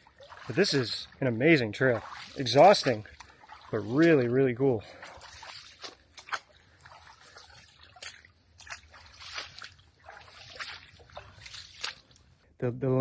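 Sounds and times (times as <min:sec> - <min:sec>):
footsteps sloshing through water: 0:00.0 - 0:12.4.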